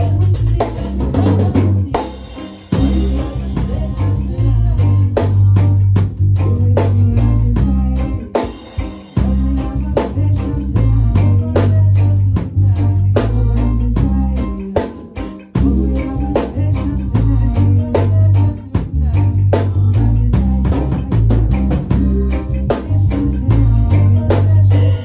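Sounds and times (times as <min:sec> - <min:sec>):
bass line: 0:00.0 - 0:25.0
drum kit beat: 0:00.0 - 0:25.0
guitar: 0:00.0 - 0:25.0.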